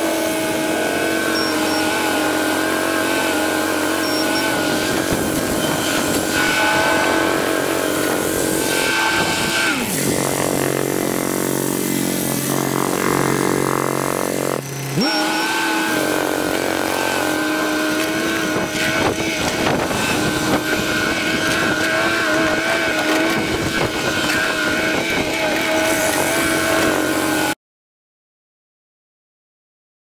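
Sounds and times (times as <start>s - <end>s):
excavator diesel engine: 0.0s - 27.6s.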